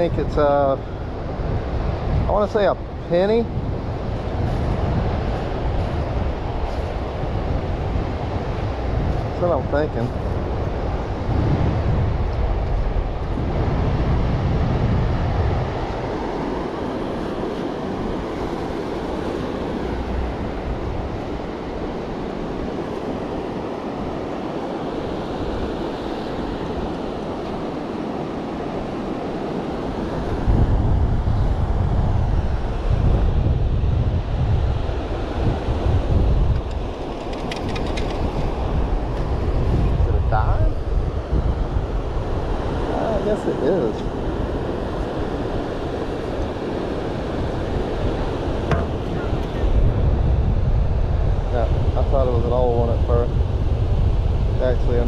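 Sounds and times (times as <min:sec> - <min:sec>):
ocean surf: 0:00.0 - 0:55.0
wind buffeting microphone: 0:00.0 - 0:55.0.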